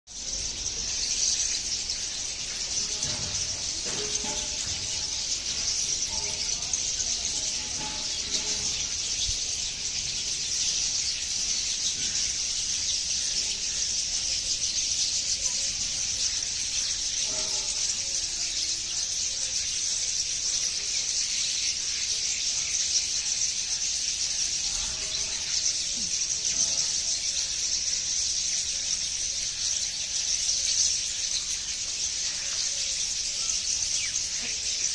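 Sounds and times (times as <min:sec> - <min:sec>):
birds chirping: 0:00.1 - 0:34.9
steady high-pitched shrill: 0:00.1 - 0:34.9.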